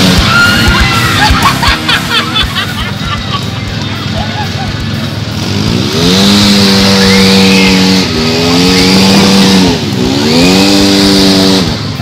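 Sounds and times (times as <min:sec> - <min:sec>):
utv engine revving: 0:00.0 - 0:01.8, 0:04.0 - 0:12.0.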